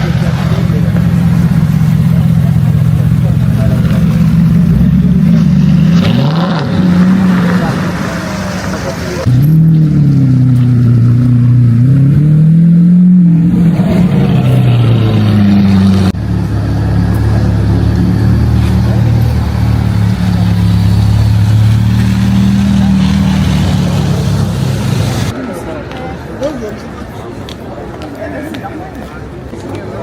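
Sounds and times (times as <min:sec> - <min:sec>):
car engine running: 0:00.0 - 0:25.4.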